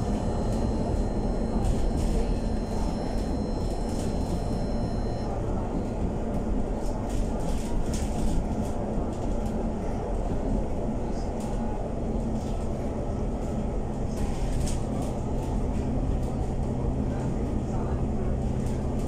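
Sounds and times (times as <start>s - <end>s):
bus engine and road drone: 0.0s - 19.0s.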